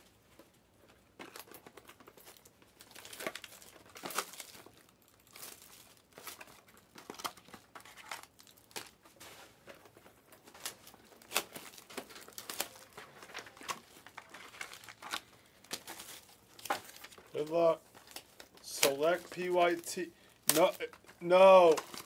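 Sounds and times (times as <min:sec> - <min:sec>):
foil wrappers crinkling and tearing: 0:00.8 - 0:22.0.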